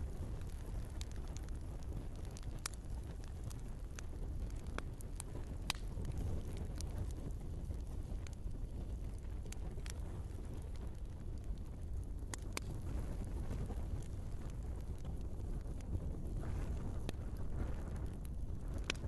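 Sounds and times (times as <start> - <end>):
burning logs crackling and popping: 0.0 - 19.0
low roar of flames: 0.0 - 19.0.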